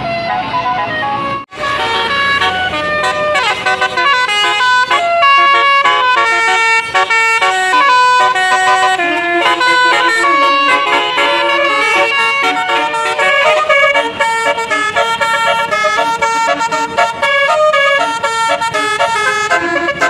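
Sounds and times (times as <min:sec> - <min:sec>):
musical bus horn melody: 0:00.0 - 0:20.0.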